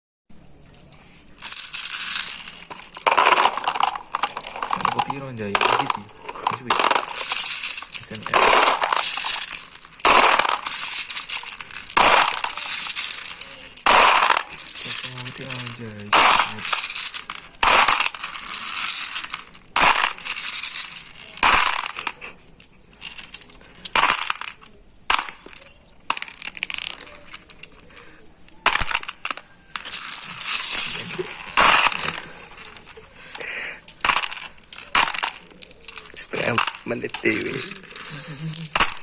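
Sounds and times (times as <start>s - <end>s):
glass marbles clattering: 0.6s - 39.0s.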